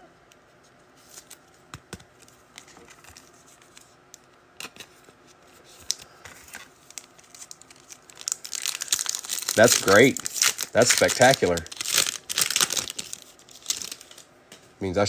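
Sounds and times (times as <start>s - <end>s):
trading cards and packaging handled: 0.3s - 14.6s.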